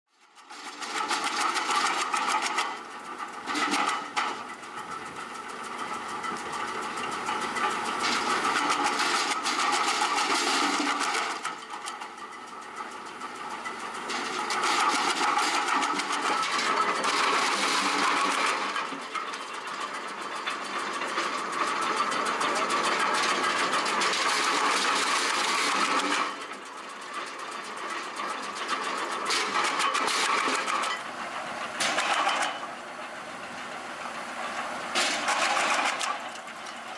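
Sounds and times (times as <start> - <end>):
wood chipper chipping branches: 0.2 - 36.9.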